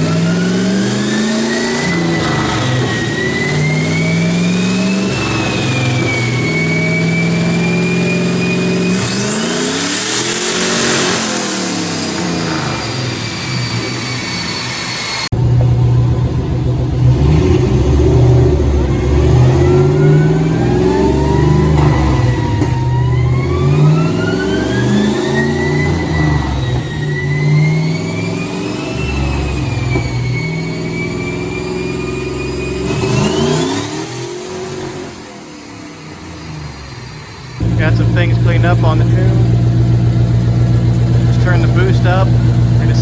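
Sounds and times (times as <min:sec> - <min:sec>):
engine running under load: 0:00.0 - 0:35.2, 0:36.1 - 0:43.0
turbo whine: 0:00.0 - 0:43.0.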